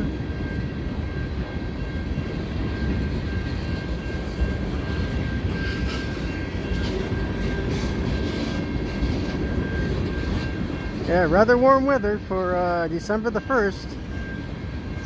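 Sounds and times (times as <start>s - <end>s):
steel wheels rumbling on rail: 0.0s - 15.0s
thin steady high tone: 0.0s - 15.0s.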